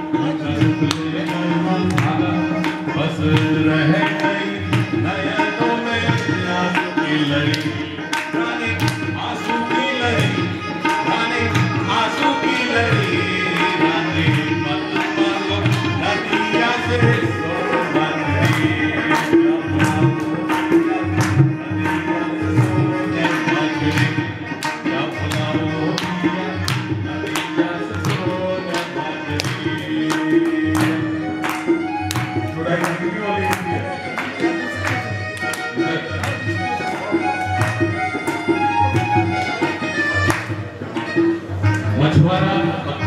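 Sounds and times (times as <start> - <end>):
tabla rhythm: 0.0 - 43.0
hand-clapping: 0.6 - 41.8.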